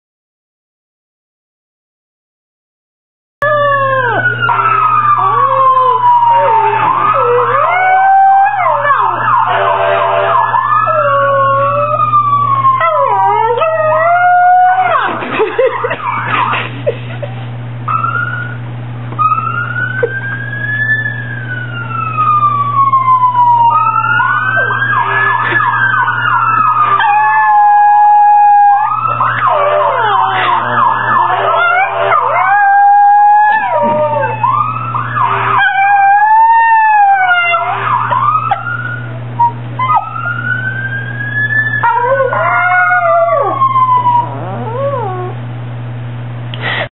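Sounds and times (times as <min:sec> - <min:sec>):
dog howling: 0:03.4 - 0:09.5, 0:10.3 - 0:16.6, 0:19.2 - 0:45.4
fire truck siren wailing: 0:03.4 - 0:16.7, 0:17.9 - 0:45.4
low hum: 0:03.4 - 0:46.8.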